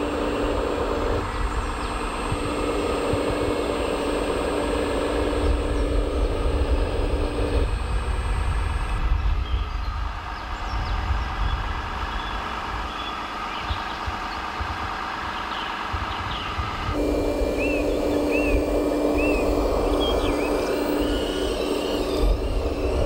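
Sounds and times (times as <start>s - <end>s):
toy truck diesel engine sound: 0.0s - 9.1s, 12.6s - 23.0s.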